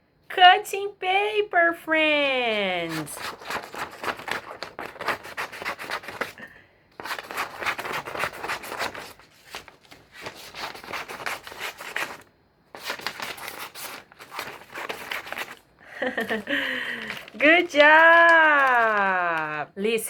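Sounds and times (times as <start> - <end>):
scissors snipping paper: 2.8 - 19.6
paper rustle: 2.8 - 19.7.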